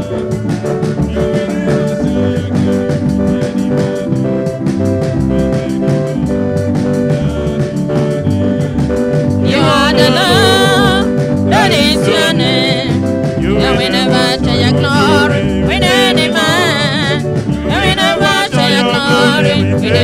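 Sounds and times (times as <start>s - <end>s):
band playing a steady beat: 0.0s - 20.0s
men singing with vibrato: 0.0s - 20.0s.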